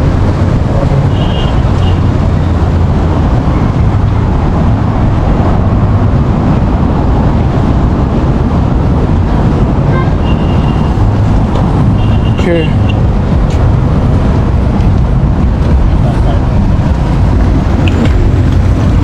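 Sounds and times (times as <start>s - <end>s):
road traffic noise: 0.0s - 19.0s
wind buffeting microphone: 0.0s - 19.0s.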